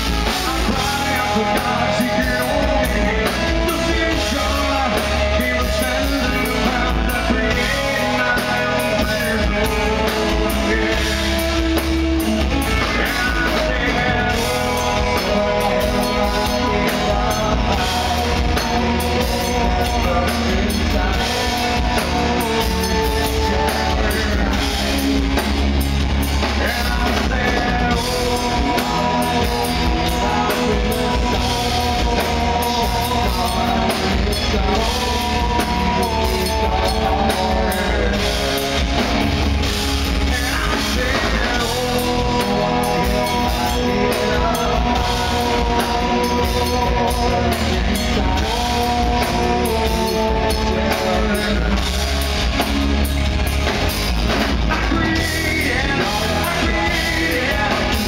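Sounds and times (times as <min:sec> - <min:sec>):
drum kit: 0:00.0 - 0:58.0
lead vocal singing: 0:00.0 - 0:58.0
rock band playing loudly: 0:00.0 - 0:58.0.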